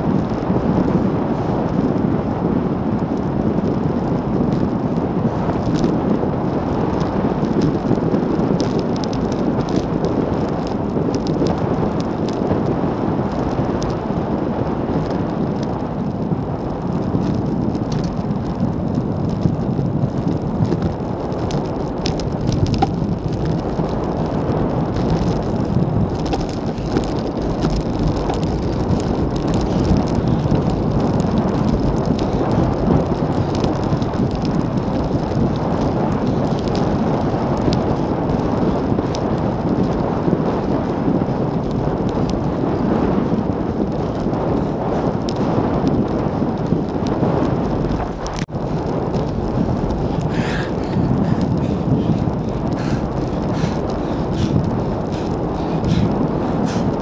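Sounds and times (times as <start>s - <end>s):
tyre noise on road: 0.0s - 57.0s
wind noise on microphone: 0.0s - 57.0s.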